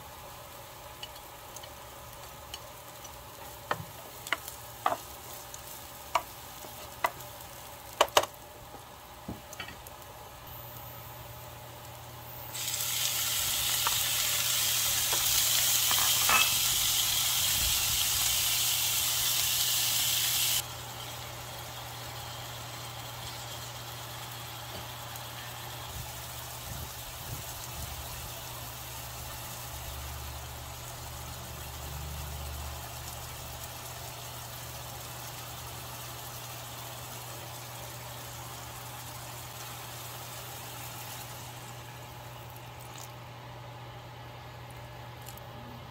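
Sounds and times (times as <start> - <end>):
meat sizzling in hot oil: 0.0 - 43.4.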